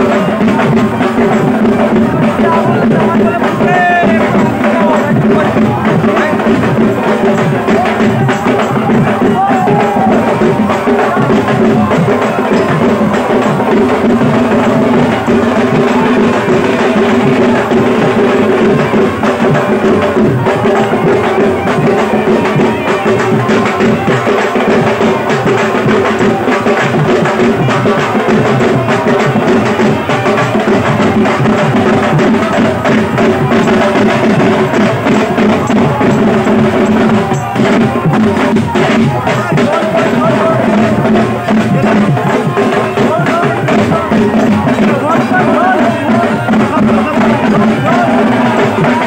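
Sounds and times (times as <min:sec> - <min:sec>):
percussion-heavy dance music: 0:00.0 - 0:49.0.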